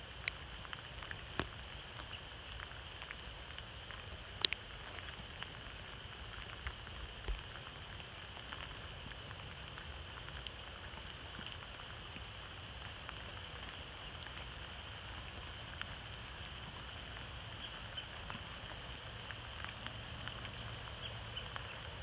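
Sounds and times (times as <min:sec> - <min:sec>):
light rain hiss: 0:00.0 - 0:22.0
raindrop clicks: 0:00.0 - 0:22.0.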